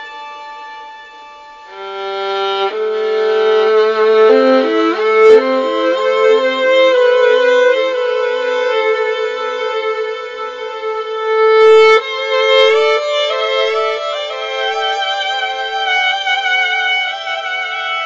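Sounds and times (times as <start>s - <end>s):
instrumental music with violin: 0.0s - 18.0s.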